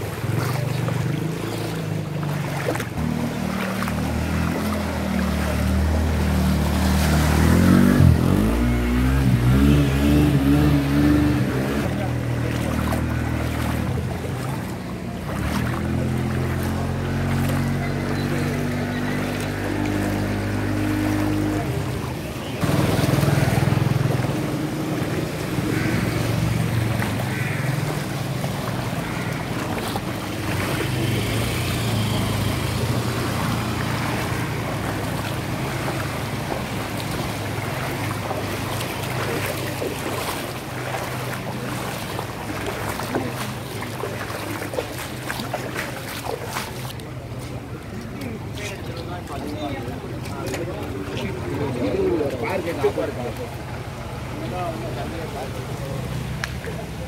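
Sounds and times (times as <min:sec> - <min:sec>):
motorcycle engines revving: 0:00.0 - 0:57.0
water splashing and sloshing: 0:00.0 - 0:57.0.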